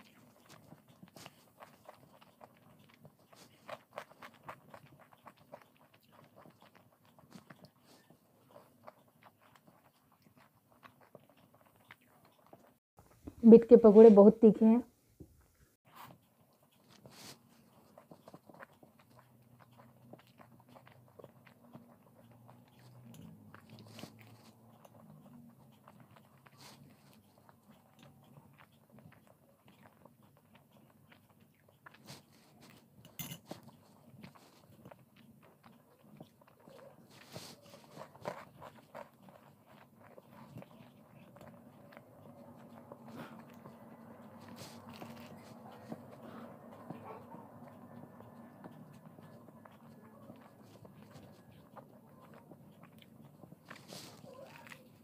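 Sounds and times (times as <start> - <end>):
faint crunchy chewing: 0.0 - 13.4, 15.8 - 55.0.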